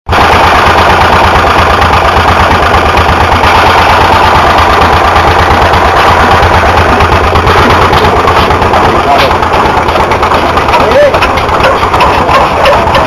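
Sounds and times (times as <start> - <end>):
stationary engine running: 0.1 - 13.0.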